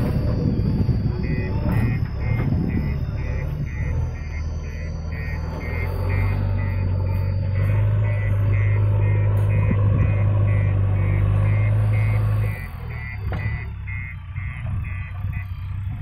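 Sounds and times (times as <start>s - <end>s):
high electronic beeps: 0.0s - 16.0s
tractor diesel engine humming: 0.0s - 16.0s.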